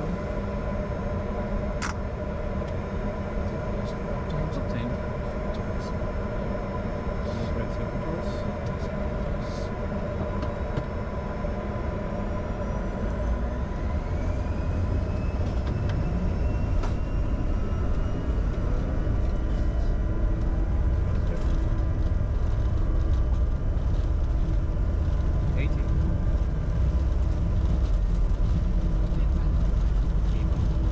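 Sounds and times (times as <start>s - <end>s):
jet engines rumbling and whining: 0.0s - 30.9s.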